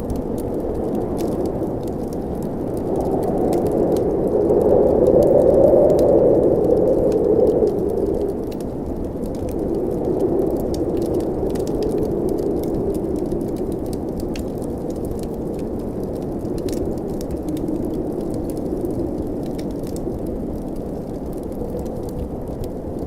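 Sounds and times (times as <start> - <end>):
blizzard wind rushing: 0.0 - 23.0
wood fire crackling: 0.0 - 23.0.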